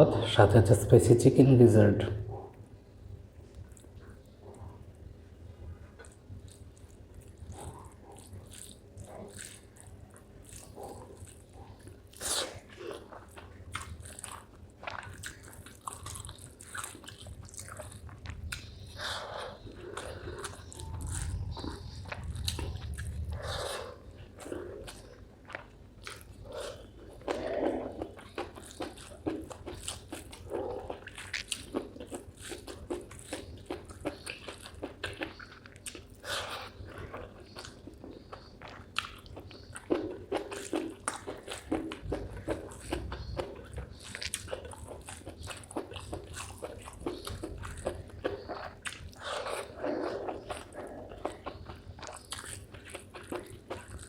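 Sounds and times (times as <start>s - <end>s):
chewing and biting: 5.8s - 54.0s.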